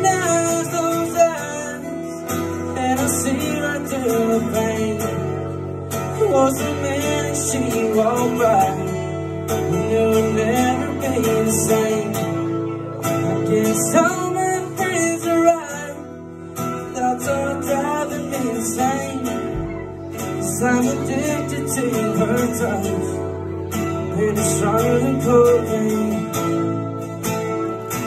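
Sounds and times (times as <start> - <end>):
man singing: 0.0 - 27.0
acoustic guitar strumming: 0.0 - 28.0.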